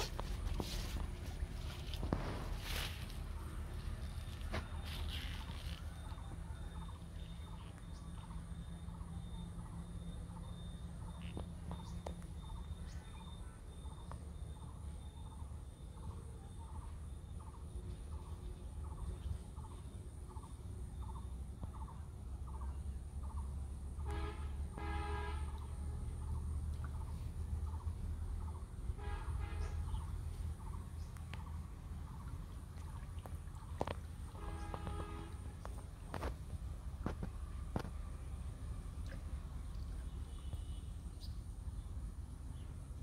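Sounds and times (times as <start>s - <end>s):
steady low rumble: 0.0s - 24.0s, 25.5s - 43.0s.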